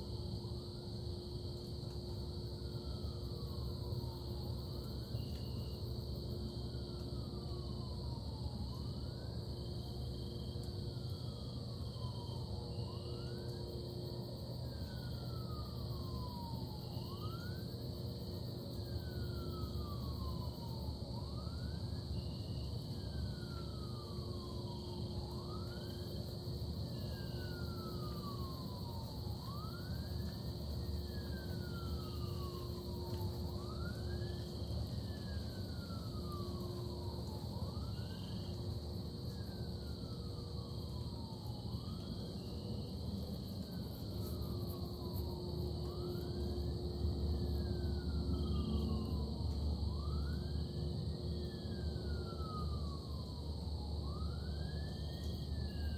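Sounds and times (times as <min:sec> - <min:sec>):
siren wailing: 0:00.2 - 0:55.9.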